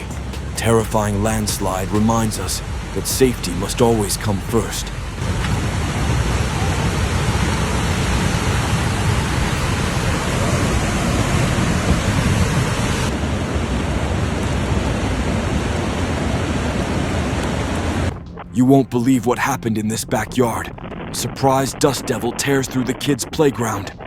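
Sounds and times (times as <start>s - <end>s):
landslide roaring: 0.0s - 24.0s.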